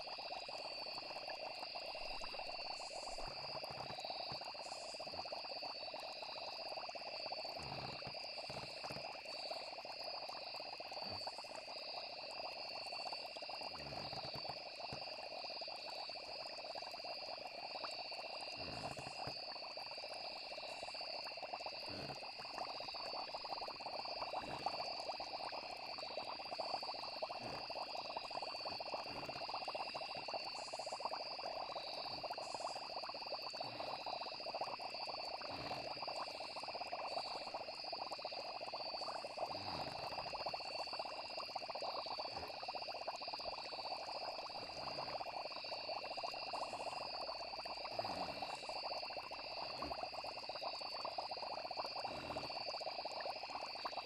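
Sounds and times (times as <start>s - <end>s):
crackling insect chorus: 0.0s - 54.0s
high insect trilling: 1.6s - 9.8s, 10.4s - 16.2s, 17.8s - 54.0s.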